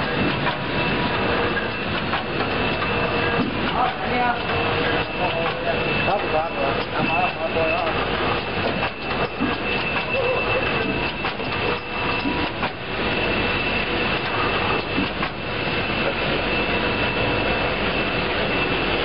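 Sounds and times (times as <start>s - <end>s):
sharp machine clacks: 0.0s - 15.5s
high whine: 0.0s - 19.0s
mechanical whir: 0.0s - 19.0s.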